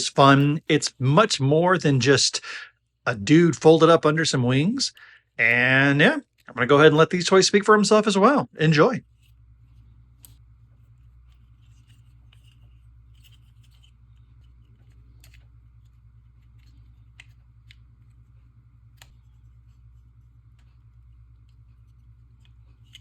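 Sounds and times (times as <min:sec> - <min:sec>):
faint clicks and scratching: 0:00.0 - 0:07.1, 0:09.0 - 0:23.0
steady low hum: 0:00.0 - 0:23.0.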